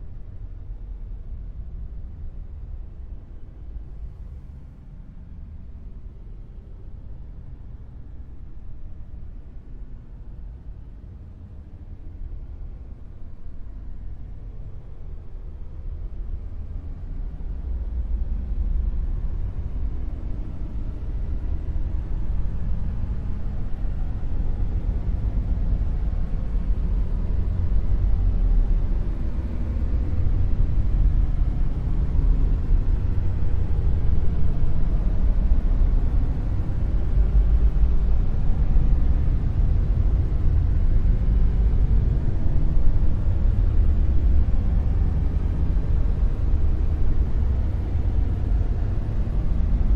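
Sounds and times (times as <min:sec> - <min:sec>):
deep dark noise: 0:08.8 - 0:49.9.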